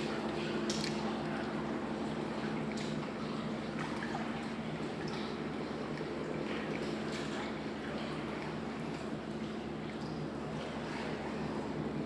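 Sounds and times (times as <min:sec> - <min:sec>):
low mechanical hum: 0:00.0 - 0:12.0
water lapping: 0:00.0 - 0:12.0.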